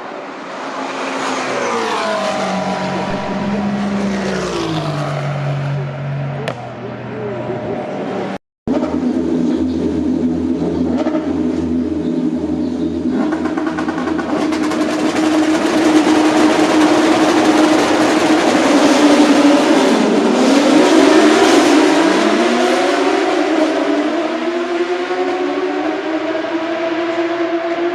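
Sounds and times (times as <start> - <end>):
racing car engine: 0.0 - 27.9.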